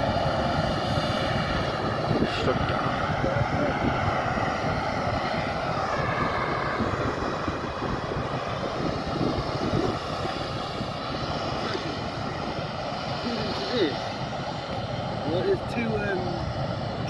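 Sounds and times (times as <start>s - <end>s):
jet engines running: 0.0s - 17.0s
wind rumble on microphone: 0.0s - 17.0s.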